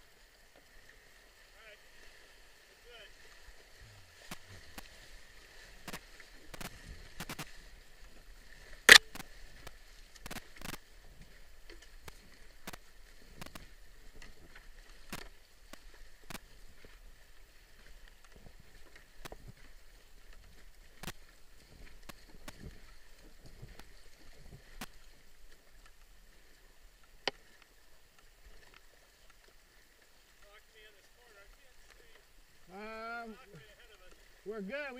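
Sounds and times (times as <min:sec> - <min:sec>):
paddle splashes and knocks: 0:00.0 - 0:34.8
rushing river water: 0:00.0 - 0:34.9.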